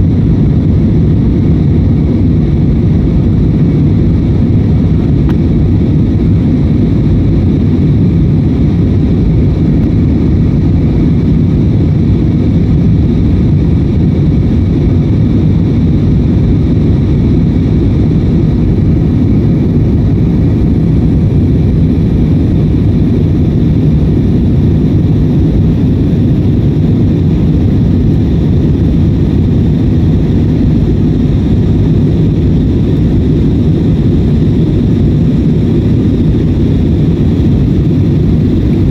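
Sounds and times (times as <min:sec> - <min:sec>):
faint steady whine: 0:00.0 - 0:38.9
jet engine drone and rushing air: 0:00.0 - 0:38.9.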